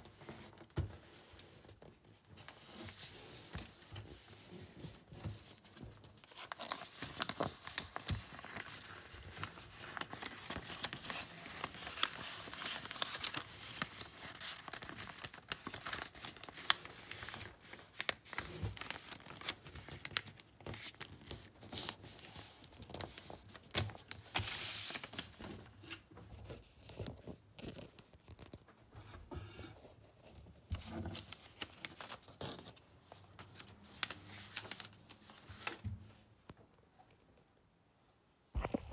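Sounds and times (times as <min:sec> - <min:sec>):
paper rustling and crinkling: 0:00.0 - 0:28.7, 0:30.2 - 0:36.2.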